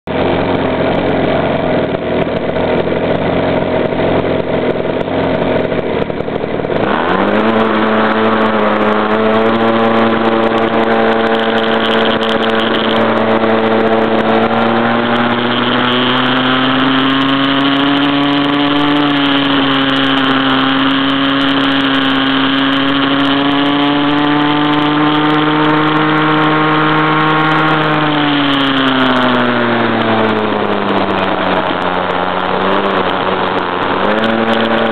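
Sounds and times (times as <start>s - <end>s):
small two-stroke engine revving: 0.0s - 34.9s.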